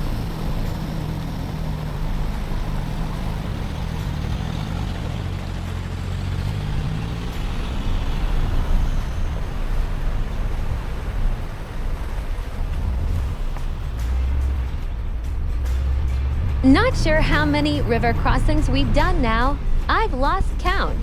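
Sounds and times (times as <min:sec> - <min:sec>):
vehicle engine droning: 0:00.0 - 0:21.0
vehicle rumbling over track: 0:00.0 - 0:21.0.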